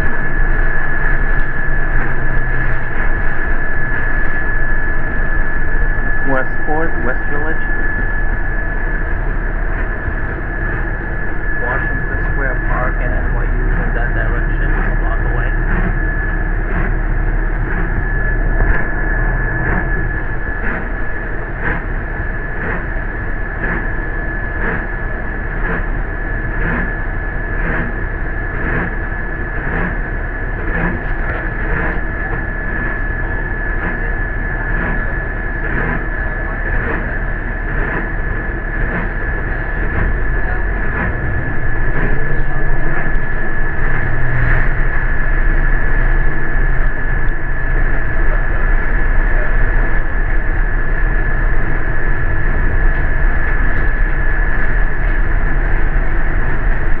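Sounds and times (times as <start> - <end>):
bus engine and road rumble: 0.0 - 57.0
high-pitched whine: 0.0 - 57.0.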